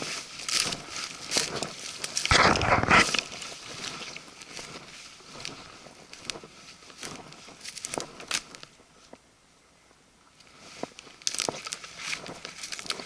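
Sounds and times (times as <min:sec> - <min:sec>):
footsteps crunching on forest litter: 0:00.0 - 0:09.2, 0:10.4 - 0:13.0
twigs cracking underfoot: 0:00.0 - 0:09.2, 0:10.4 - 0:13.0.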